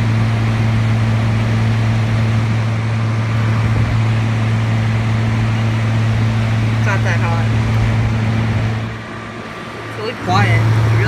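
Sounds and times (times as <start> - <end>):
air conditioner compressor humming: 0.0 - 11.0
air conditioner fan rushing: 0.0 - 11.0.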